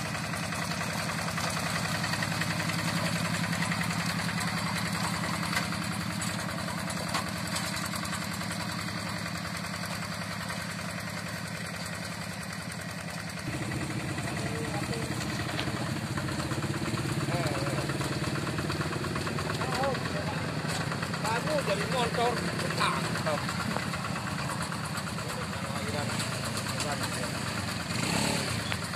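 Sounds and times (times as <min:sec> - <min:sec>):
diesel engine chugging: 0:00.0 - 0:28.9.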